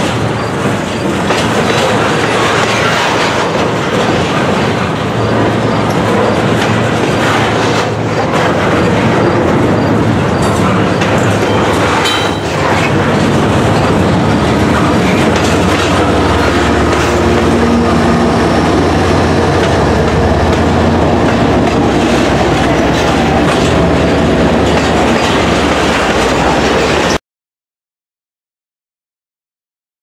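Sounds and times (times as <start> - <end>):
freight train rumbling past: 0.0 - 27.2
locomotive diesel engine: 0.0 - 27.2
wheels clicking over rail joints: 0.0 - 27.2.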